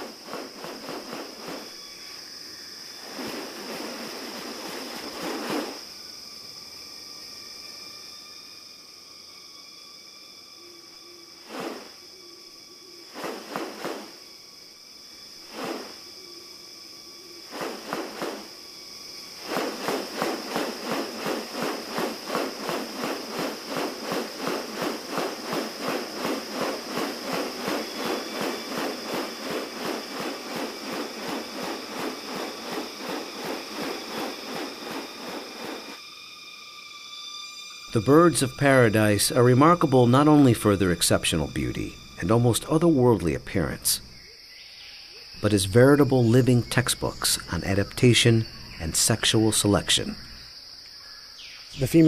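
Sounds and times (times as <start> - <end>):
high-pitched insect drone: 0.0 - 52.0.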